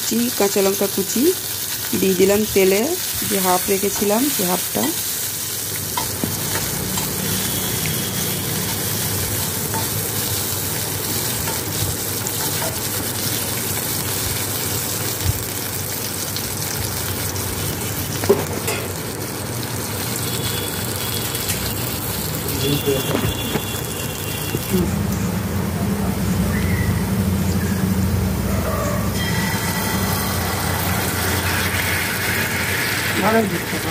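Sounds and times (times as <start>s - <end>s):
food sizzling in oil: 0.0s - 24.8s, 29.1s - 33.9s.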